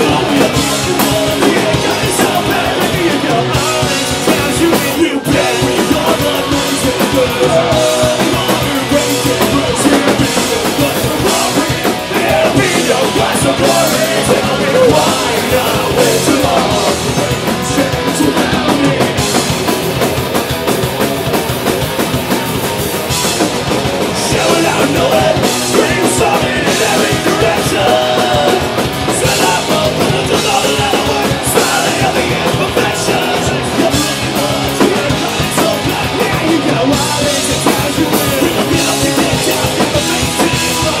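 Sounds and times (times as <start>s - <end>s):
singer's vocals: 0.0s - 20.2s, 24.0s - 41.0s
punk rock band playing live: 0.0s - 41.0s.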